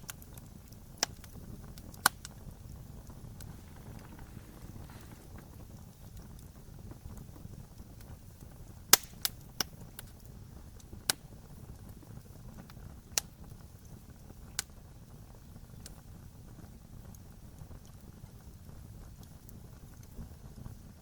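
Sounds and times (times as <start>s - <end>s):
fire crackling pops: 0.0s - 21.0s
wood fire rumbling: 0.0s - 21.0s.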